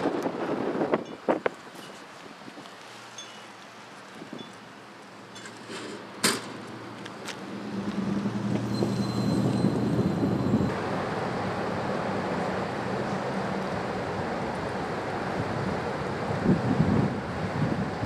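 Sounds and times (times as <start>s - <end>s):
vehicle engine hum: 0.0s - 18.0s
wind: 0.0s - 18.0s.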